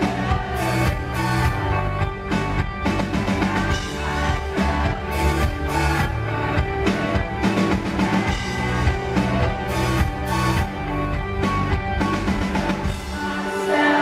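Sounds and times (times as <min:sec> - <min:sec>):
electric guitar: 0:00.0 - 0:14.0
live rock band playing: 0:00.0 - 0:14.0.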